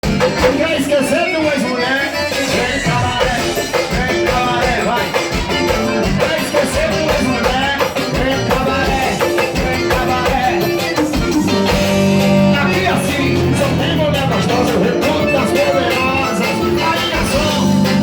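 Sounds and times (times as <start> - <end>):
band music with wavering lead melody: 0.0 - 18.0
sustained bass line: 2.5 - 18.0.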